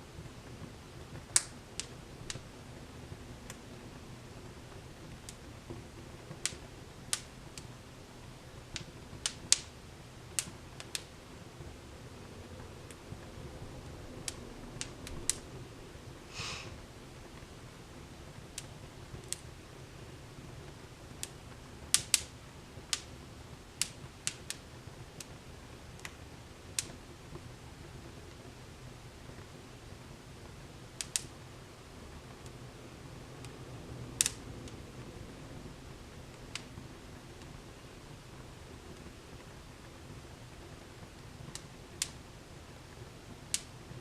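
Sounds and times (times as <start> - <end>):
faint low background hum: 0.0 - 44.0
low rumble of flames: 0.0 - 44.0
wood fire crackling: 0.0 - 44.0.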